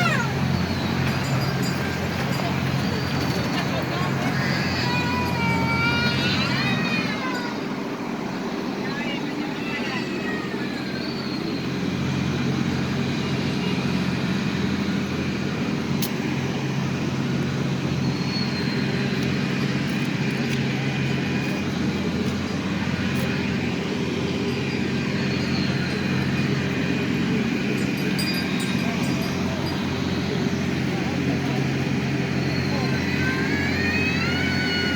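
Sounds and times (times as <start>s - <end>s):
ride train mechanical drone: 0.0s - 34.9s.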